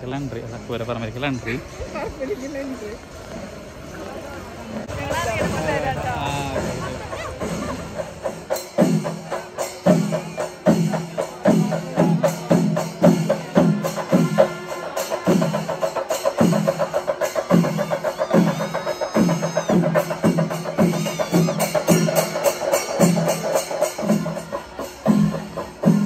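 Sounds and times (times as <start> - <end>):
deep drum beat: 4.9 - 26.0.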